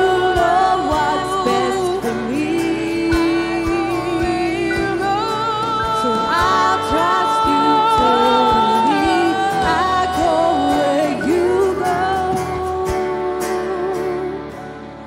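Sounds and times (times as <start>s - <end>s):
woman singing into a microphone: 0.0s - 14.9s
live band playing: 0.0s - 15.0s.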